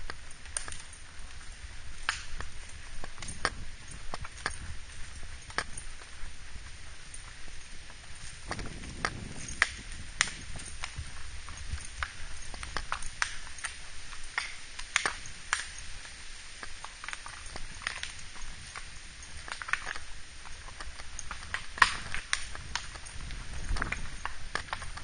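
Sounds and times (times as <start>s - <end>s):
horse hooves clip-clopping on dirt: 0.0s - 25.0s.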